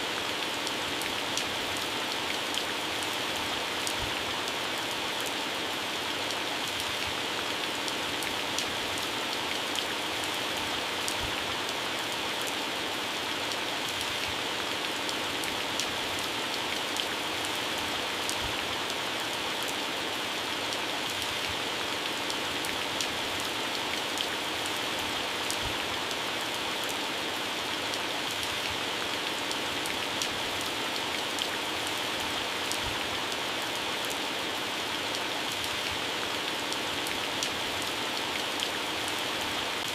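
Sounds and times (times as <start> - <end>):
heavy rain on plants: 0.0 - 39.9.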